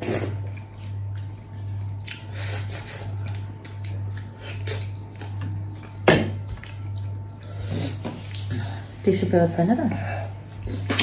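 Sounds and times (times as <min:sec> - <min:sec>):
soft chewing: 0:00.0 - 0:09.0
steady low hum: 0:00.0 - 0:11.0.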